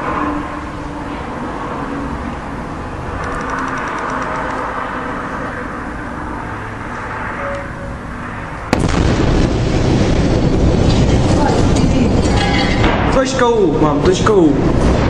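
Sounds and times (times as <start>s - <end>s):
outdoor background rumble: 0.0s - 15.0s.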